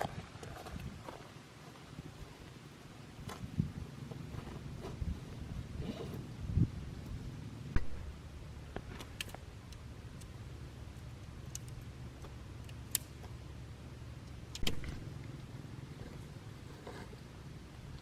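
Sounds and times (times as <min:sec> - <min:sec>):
steady low rumble: 0:01.9 - 0:18.0.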